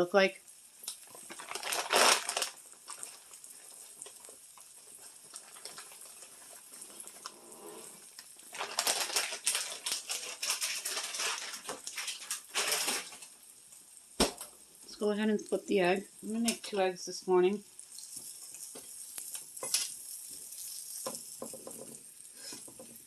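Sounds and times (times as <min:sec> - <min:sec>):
egg sizzling in a pan: 0:00.0 - 0:23.0.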